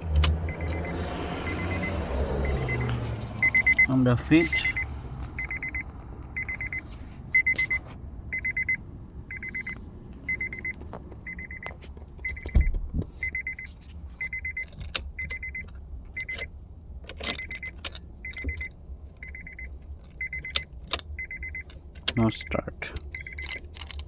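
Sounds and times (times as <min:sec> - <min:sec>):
car warning chime beeping: 0:00.3 - 0:16.5, 0:17.3 - 0:23.6.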